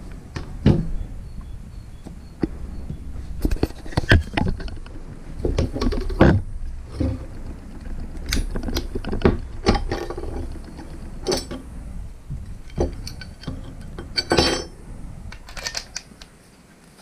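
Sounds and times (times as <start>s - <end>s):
tool handling clicks and knocks: 2.0s - 11.7s, 12.3s - 17.0s.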